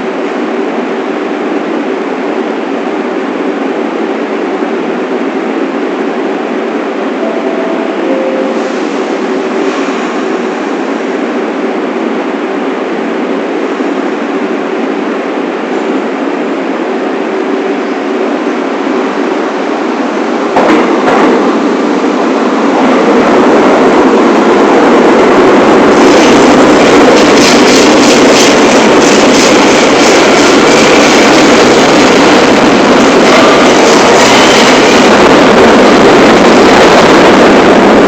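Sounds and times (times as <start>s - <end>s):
subway train running on rails: 0.0s - 38.0s.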